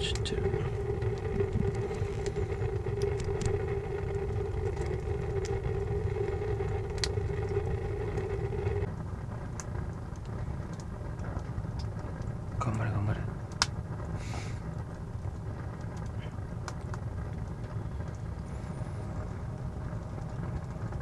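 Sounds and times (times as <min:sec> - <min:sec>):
fire crackling and popping: 0:00.0 - 0:21.0
steady low hum: 0:00.0 - 0:21.0.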